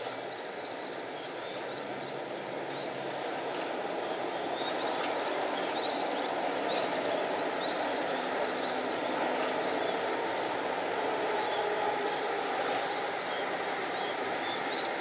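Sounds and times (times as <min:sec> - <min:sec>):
distant freight train rumble: 0:00.0 - 0:15.0.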